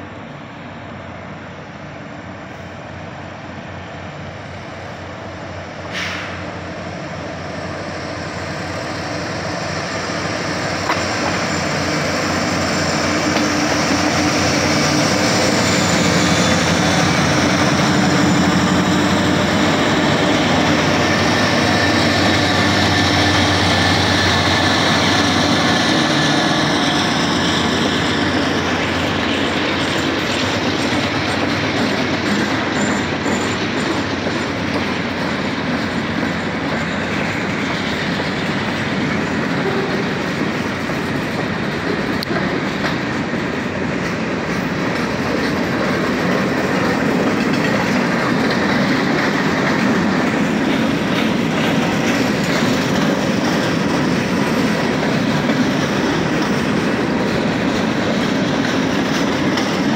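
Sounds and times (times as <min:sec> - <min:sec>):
diesel locomotive passing: 0:00.0 - 0:59.9
train wheels on rails: 0:00.0 - 0:59.9.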